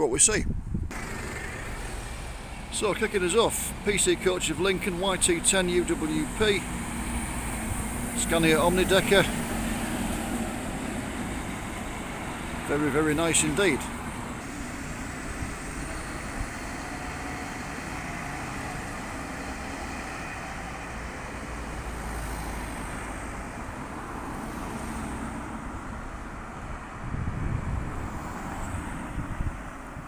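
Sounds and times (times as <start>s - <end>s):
road traffic noise: 0.0s - 30.0s
vehicle passing: 0.9s - 30.0s.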